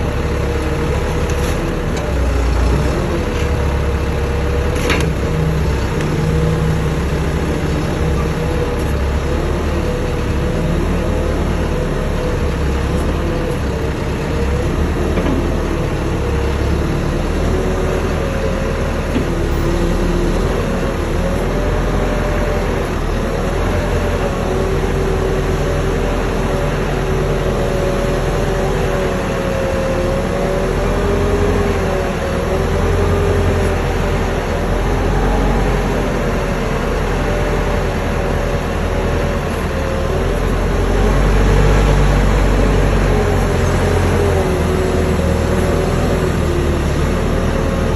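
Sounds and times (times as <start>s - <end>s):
diesel engine rumbling with whine: 0.0s - 47.9s.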